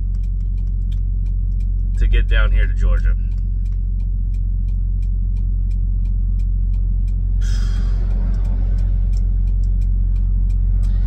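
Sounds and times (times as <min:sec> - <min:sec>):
fast even ticking: 0:00.0 - 0:11.0
truck engine rumble: 0:00.0 - 0:11.0.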